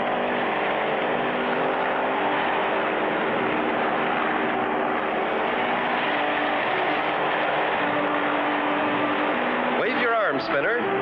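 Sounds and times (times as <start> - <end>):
race car engine drone: 0.0 - 11.0.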